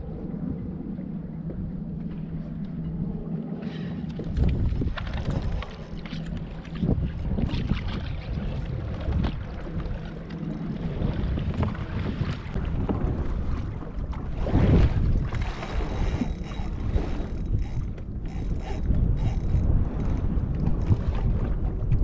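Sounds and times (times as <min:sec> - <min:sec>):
wind buffeting microphone: 0:00.0 - 0:22.0
water slapping boat hull: 0:00.1 - 0:22.0.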